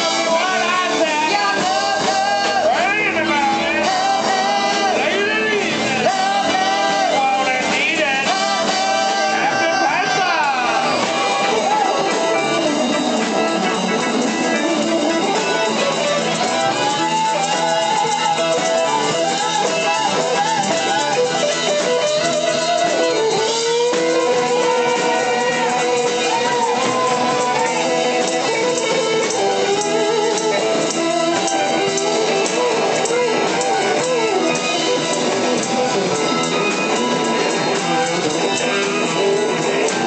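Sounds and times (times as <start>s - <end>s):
loud electric guitar: 0.0s - 40.0s.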